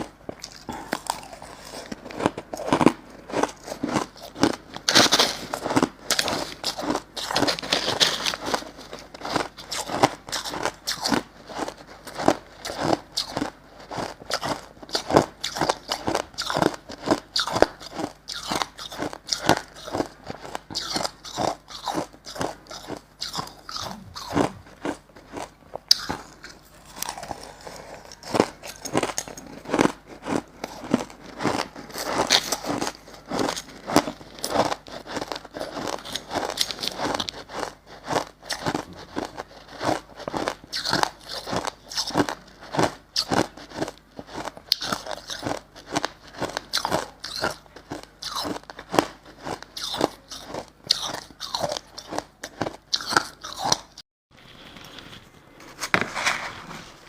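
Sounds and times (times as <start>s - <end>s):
chewing crushed ice: 0.0s - 56.1s.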